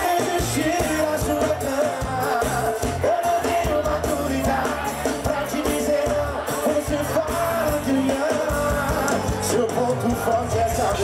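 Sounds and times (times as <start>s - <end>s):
electric bass: 0.0s - 11.0s
man singing: 0.0s - 11.0s.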